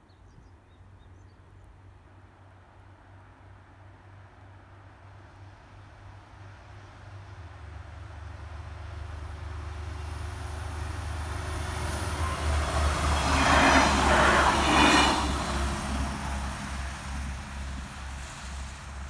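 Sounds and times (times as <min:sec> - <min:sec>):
diesel train passing at speed: 0:01.4 - 0:19.0.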